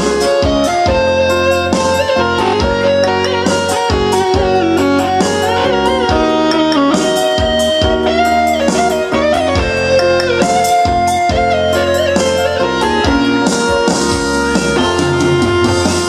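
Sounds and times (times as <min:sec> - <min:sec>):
bass line: 0:00.0 - 0:16.0
electric guitar melody: 0:00.0 - 0:16.0.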